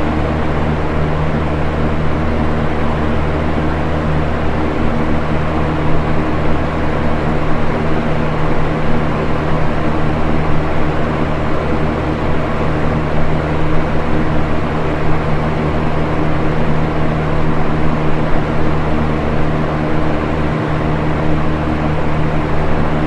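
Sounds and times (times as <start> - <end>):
box fan air rushing: 0.0 - 23.0
low motor hum: 0.0 - 23.0.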